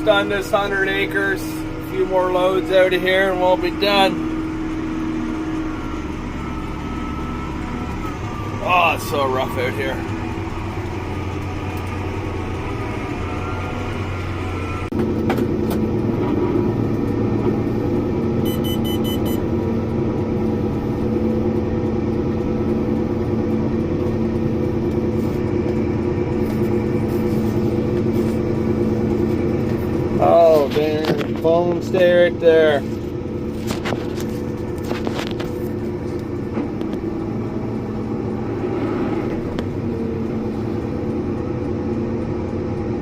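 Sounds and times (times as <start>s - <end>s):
farm vehicle engine running: 0.0s - 43.0s.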